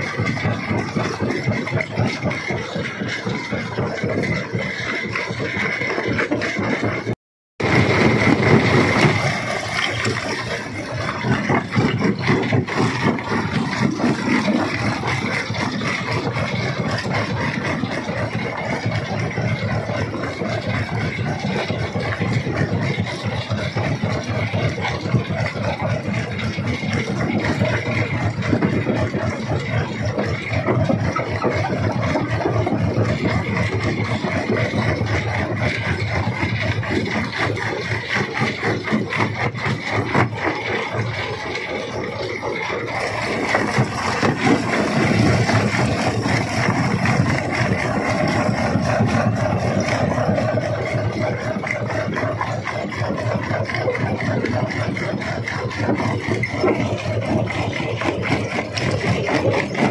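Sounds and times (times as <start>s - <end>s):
engine drone: 0.0s - 59.9s
rock rattling and knocking: 0.0s - 59.9s.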